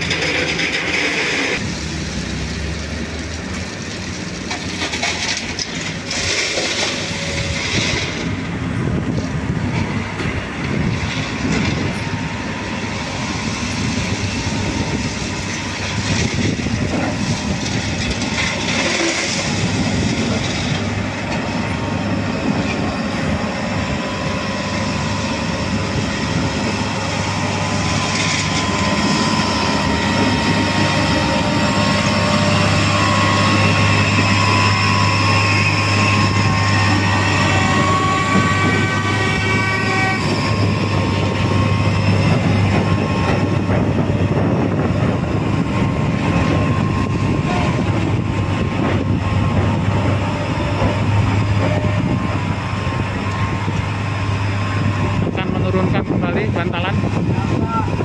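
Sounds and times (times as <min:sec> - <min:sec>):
train running noise: 0:00.0 - 0:58.0
high whining tones: 0:10.2 - 0:58.0.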